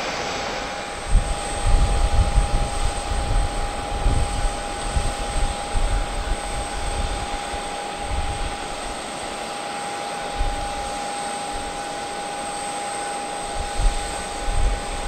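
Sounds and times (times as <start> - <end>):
jet auxiliary power unit whine: 0.0 - 15.0.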